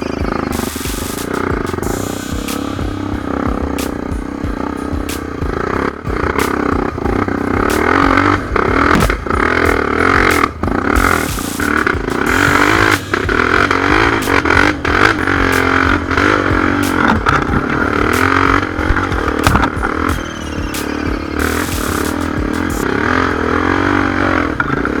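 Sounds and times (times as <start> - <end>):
sharp knocks and clatter: 0.0 - 23.0
motorcycle engine revving: 0.0 - 25.0.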